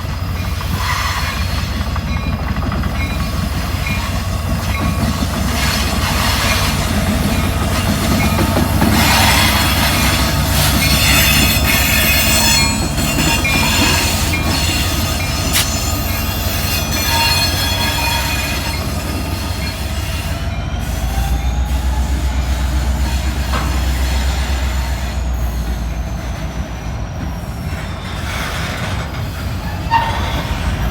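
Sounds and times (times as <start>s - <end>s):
low rumble of railcars: 0.0s - 30.9s
train wheels squealing: 0.0s - 30.9s.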